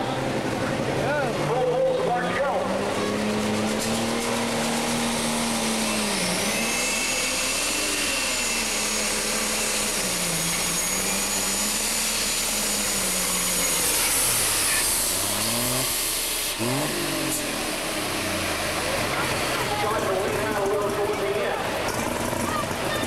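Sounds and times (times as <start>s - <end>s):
tractor engine running hard: 0.0s - 23.0s.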